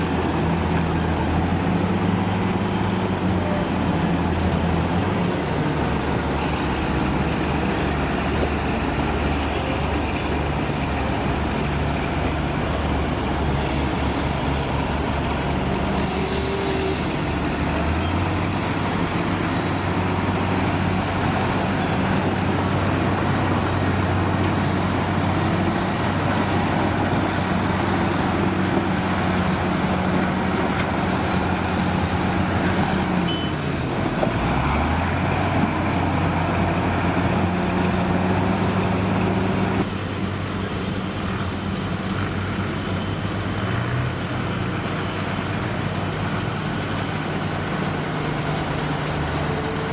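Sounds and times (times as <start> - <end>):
heavy vehicle diesel engine: 0.0 - 49.9.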